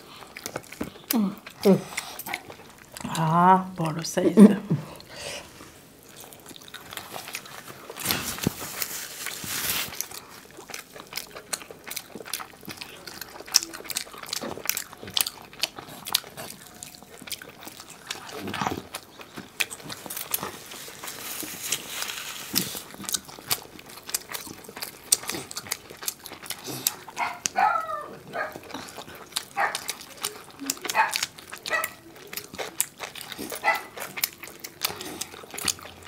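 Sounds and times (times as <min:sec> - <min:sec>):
wet chewing and lip-smacking: 0:00.0 - 0:03.4, 0:06.0 - 0:36.0.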